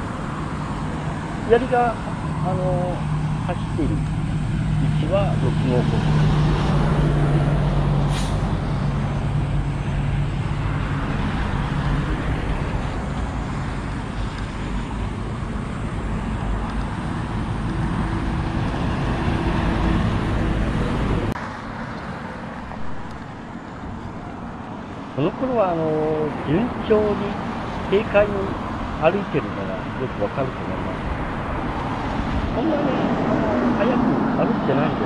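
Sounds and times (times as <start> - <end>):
highway traffic passing: 0.0 - 35.0.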